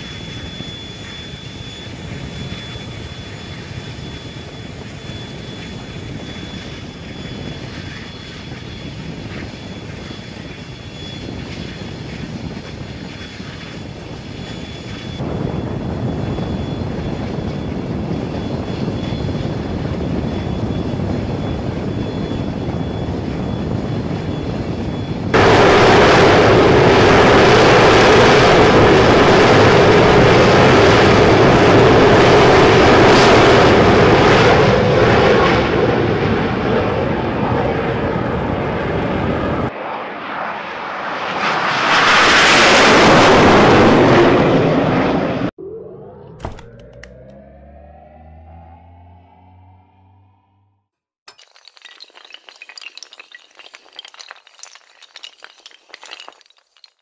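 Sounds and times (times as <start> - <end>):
jet engine rushing with whine: 0.0 - 50.8.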